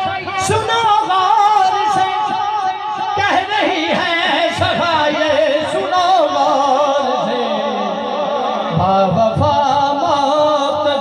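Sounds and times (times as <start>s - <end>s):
man singing into a microphone: 0.0s - 11.0s.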